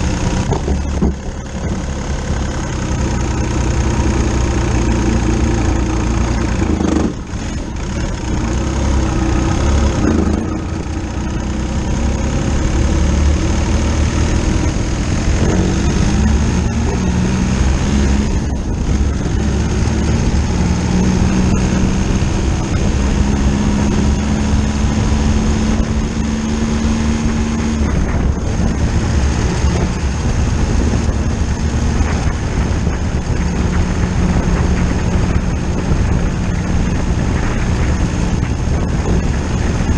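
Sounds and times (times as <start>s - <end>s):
diesel motorcycle engine: 0.0s - 39.9s.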